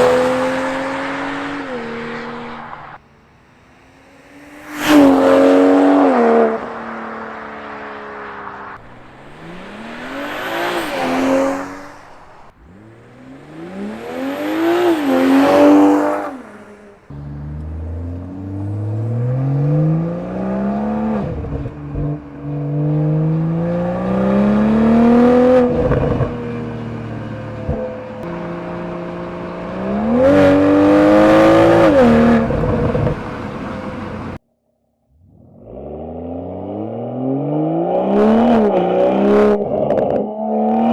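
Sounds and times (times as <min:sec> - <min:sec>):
car engine revving and accelerating: 0:00.0 - 0:34.4, 0:35.3 - 0:40.9.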